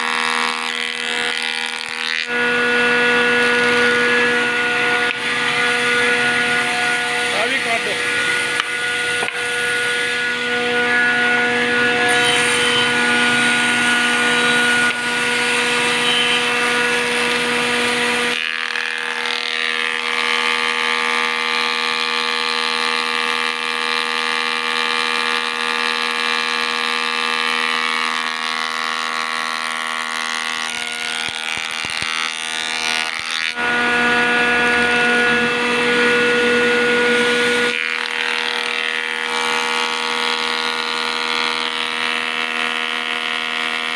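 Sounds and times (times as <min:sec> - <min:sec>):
woodworking cutter head humming: 0:00.0 - 0:43.9.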